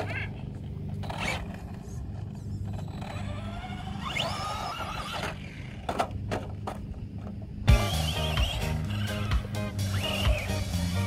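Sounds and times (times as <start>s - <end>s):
rc truck electric motor whining: 0.0s - 6.2s, 7.6s - 11.0s.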